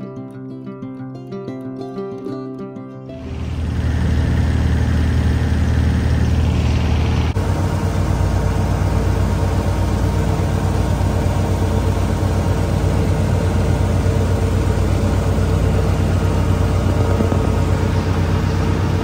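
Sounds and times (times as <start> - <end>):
machinery low hum: 3.1 - 19.0.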